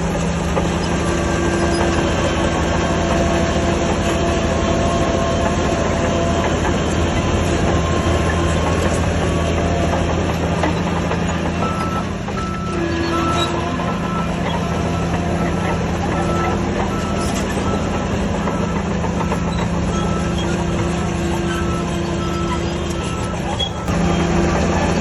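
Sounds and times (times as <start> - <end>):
diesel engine running: 0.0 - 25.0
reversing alarm beeping: 1.0 - 24.9.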